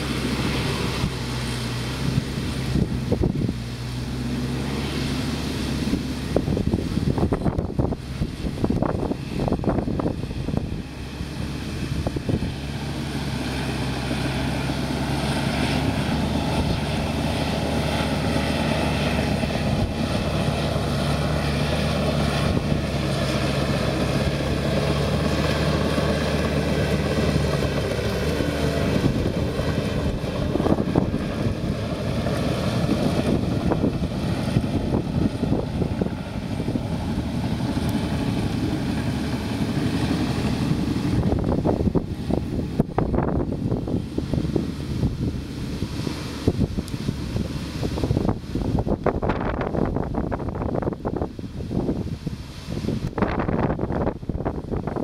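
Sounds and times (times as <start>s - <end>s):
diesel engine running under load: 0.0s - 55.0s
wind buffeting microphone: 0.0s - 55.0s.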